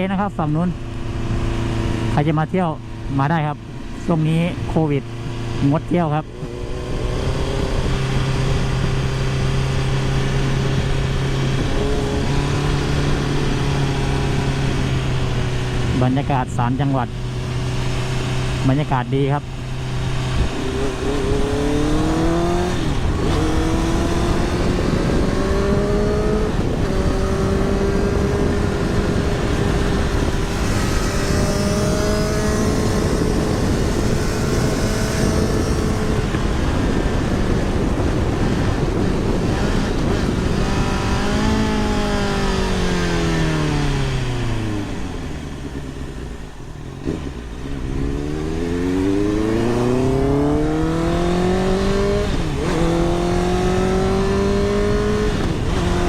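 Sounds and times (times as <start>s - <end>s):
motorcycle engine: 0.0s - 56.0s
wind rush: 0.0s - 56.0s.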